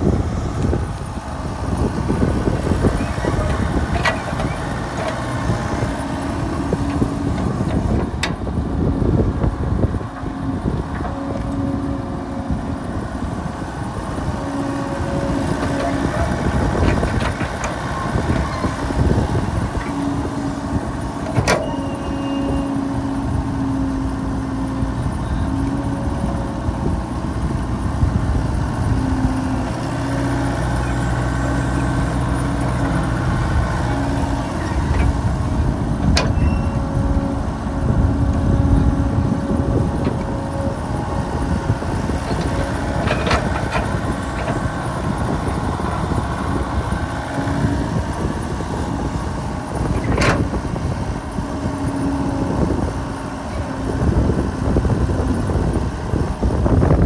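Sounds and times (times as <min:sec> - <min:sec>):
excavator diesel engine under load: 0:00.0 - 0:57.0.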